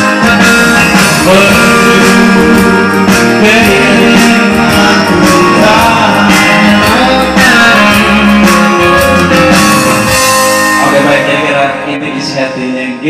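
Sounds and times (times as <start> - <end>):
bass: 0.0 - 13.0
guitar: 0.0 - 13.0
person singing: 0.0 - 13.0.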